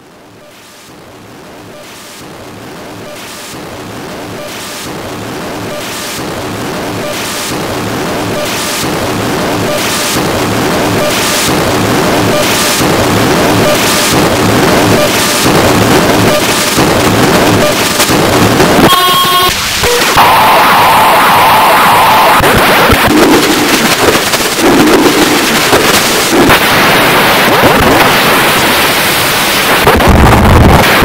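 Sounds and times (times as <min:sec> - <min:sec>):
harsh digital noise music: 0:00.0 - 0:31.0.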